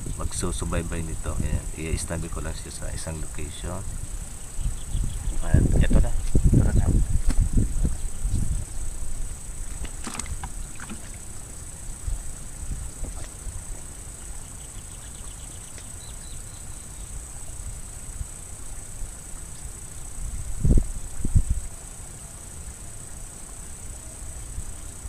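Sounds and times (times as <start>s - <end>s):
wind rumble on microphone: 0.0s - 19.4s, 20.0s - 21.8s
high insect drone: 0.0s - 25.0s.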